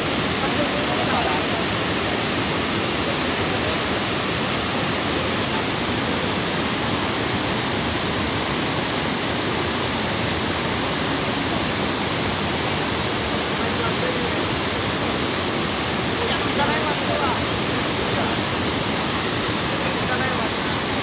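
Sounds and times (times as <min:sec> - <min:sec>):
torrent of muddy water and stones: 0:00.0 - 0:21.0.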